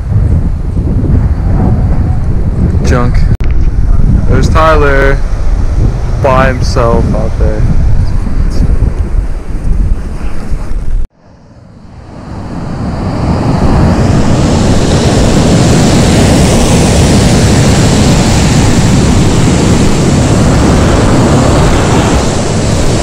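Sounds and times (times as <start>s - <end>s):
ocean surf: 4.0s - 23.0s.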